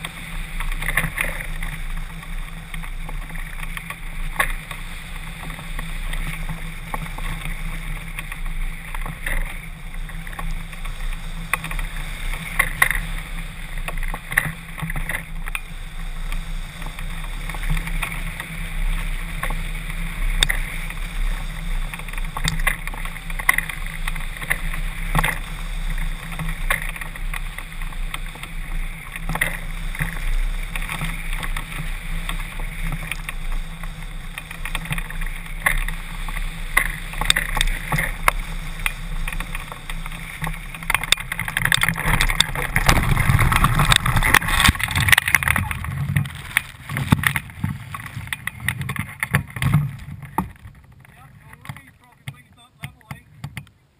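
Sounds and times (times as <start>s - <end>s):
sharp clicks and rattles: 0.0s - 53.8s
wind buffeting camera: 0.0s - 53.9s.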